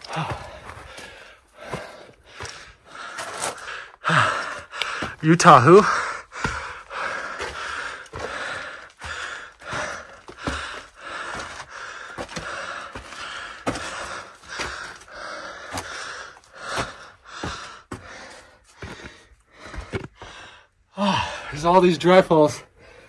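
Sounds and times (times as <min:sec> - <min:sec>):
footsteps on gravel and rock: 0:00.0 - 0:20.6
person panting: 0:00.0 - 0:21.5.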